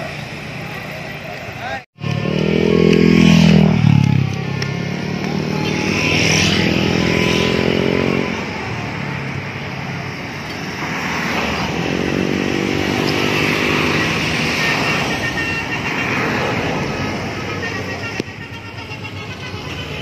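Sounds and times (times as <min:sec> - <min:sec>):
road vehicles passing: 0:00.0 - 0:20.0.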